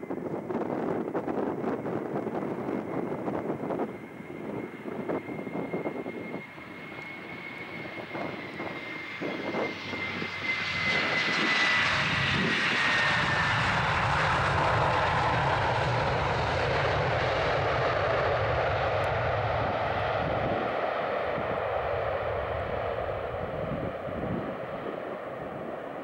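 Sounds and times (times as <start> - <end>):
jet engine whine: 0.0 - 26.0
jet noise: 0.0 - 26.0
wind gusts on microphone: 0.0 - 26.0.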